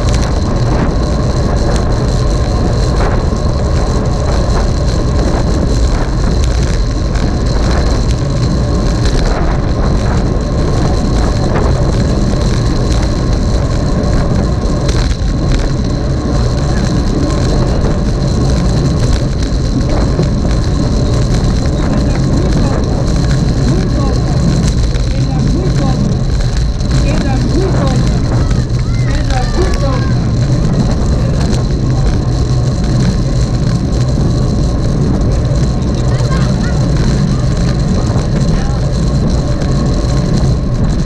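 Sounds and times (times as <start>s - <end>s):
road noise: 0.0s - 41.0s
wind noise on microphone: 0.0s - 41.0s.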